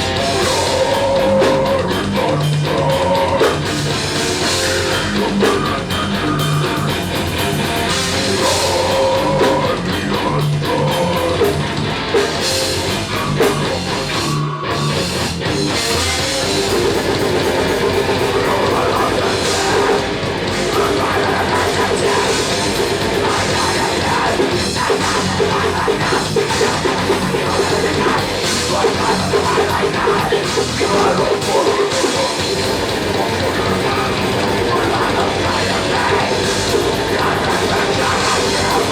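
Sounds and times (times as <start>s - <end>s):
heavy metal rock music: 0.0s - 38.9s.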